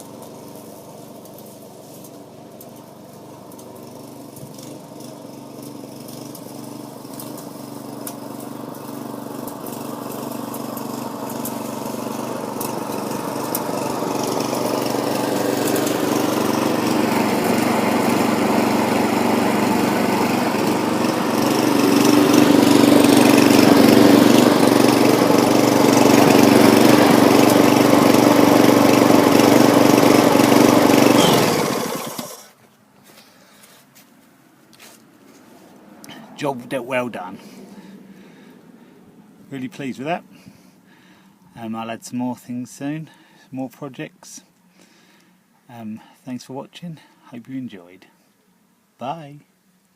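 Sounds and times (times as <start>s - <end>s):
lawnmower engine cutting grass: 0.0s - 41.1s.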